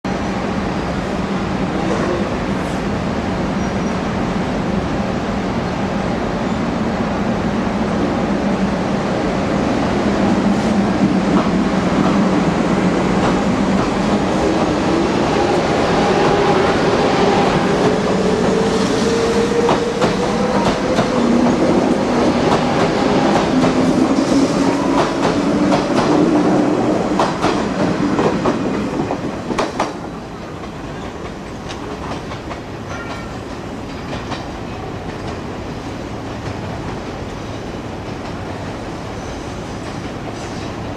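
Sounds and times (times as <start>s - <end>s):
train rumble: 0.2s - 40.9s.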